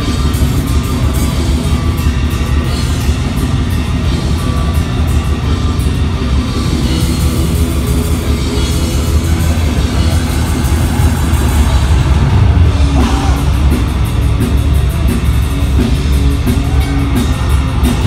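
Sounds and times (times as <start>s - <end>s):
heavy metal band playing live: 0.0s - 18.0s.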